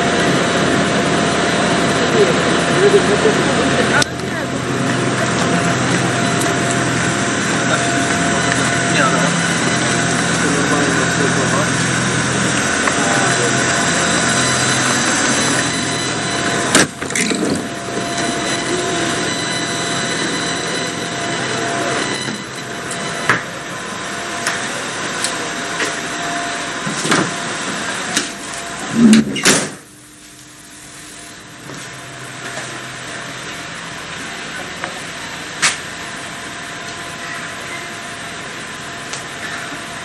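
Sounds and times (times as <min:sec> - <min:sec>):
diesel train engine idling: 0:00.0 - 0:29.0, 0:29.8 - 0:40.0.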